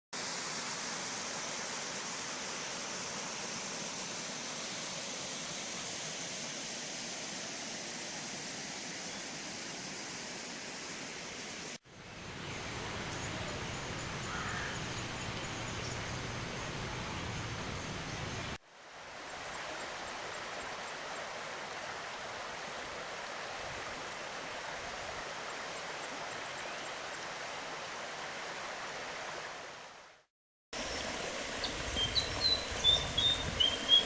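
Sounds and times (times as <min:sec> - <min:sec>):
rushing water hiss: 0:00.2 - 0:34.0.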